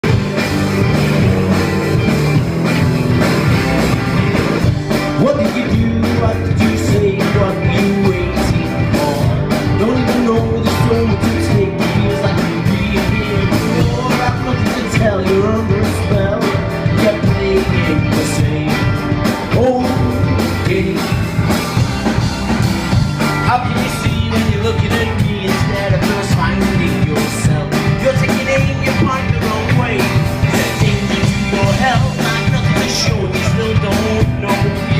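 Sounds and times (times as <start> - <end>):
loud rock band music: 0.0 - 34.9
pitch-bending lead guitar line: 0.0 - 34.9.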